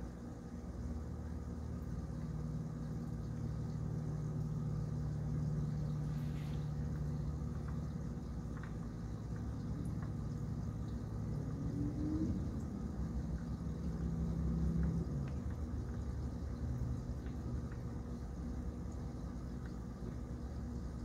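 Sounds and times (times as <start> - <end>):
low background rumble and hum: 0.0 - 21.0.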